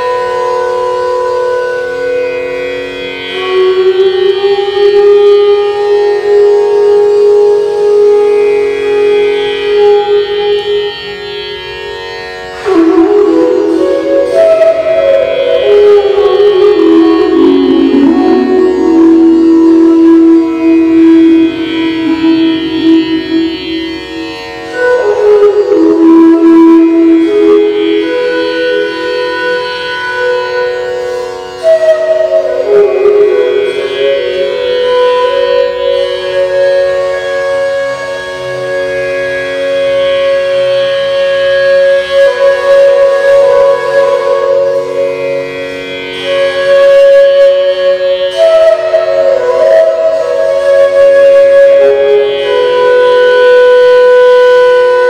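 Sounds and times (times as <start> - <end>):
bamboo flute melody: 0.0 - 55.0.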